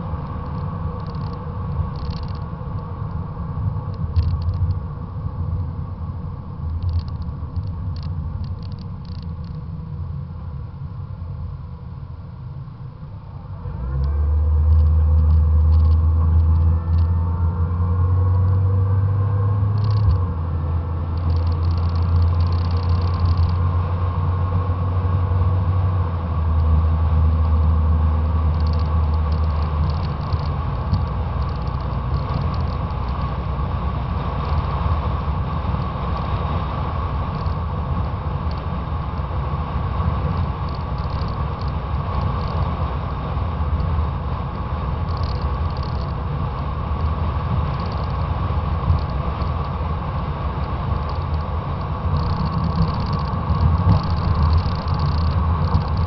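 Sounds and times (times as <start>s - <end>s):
car engine drone: 0.0s - 56.0s
road rumble: 0.0s - 56.0s
wind rumbling over camera: 0.0s - 56.0s.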